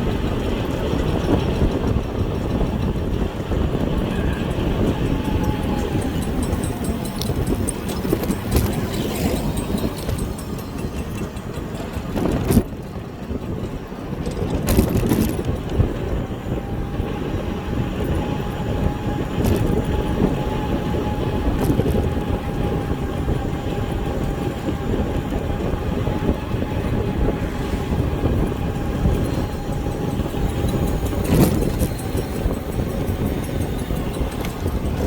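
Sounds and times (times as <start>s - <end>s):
rumble of wind and tyres: 0.0s - 35.0s.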